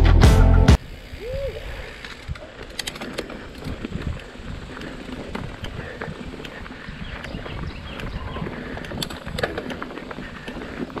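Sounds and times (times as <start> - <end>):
bike rattling: 0.8 - 11.0
bike tyres crunching on gravel: 0.8 - 11.0.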